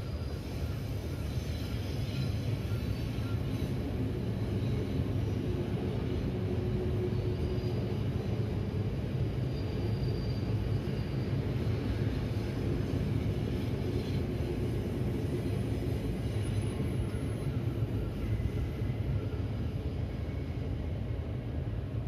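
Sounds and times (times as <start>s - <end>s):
electric train rumbling past: 0.0s - 22.0s
faint train whine: 0.0s - 22.0s.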